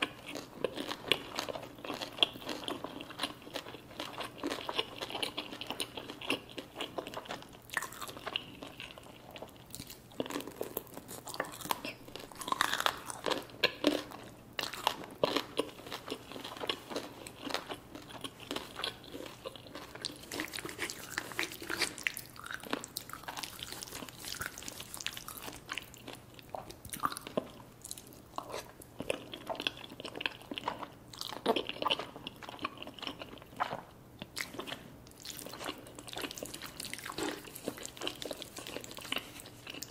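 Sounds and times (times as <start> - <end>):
person chewing and crunching: 0.0 - 39.9.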